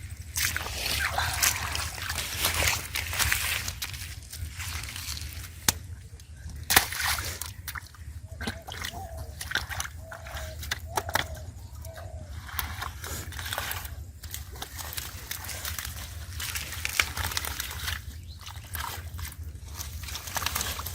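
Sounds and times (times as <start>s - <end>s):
water sloshing and splashing: 0.0s - 20.9s.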